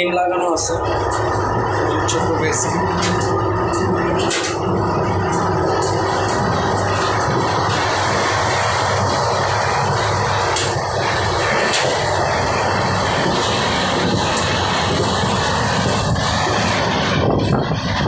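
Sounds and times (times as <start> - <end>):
passenger train running at speed: 0.0 - 18.0.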